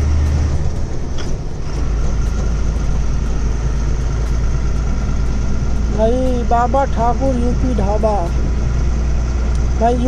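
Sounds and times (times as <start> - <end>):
diesel truck engine running: 0.0 - 10.0
road noise: 0.0 - 10.0.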